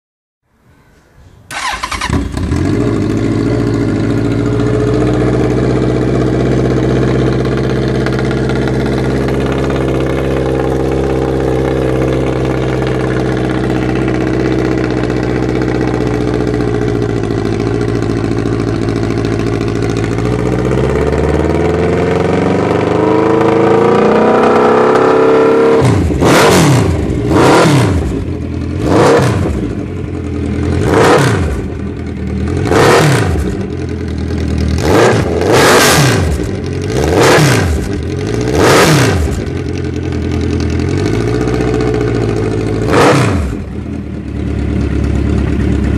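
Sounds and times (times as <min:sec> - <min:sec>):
motorcycle engine revving: 0:01.5 - 0:45.9.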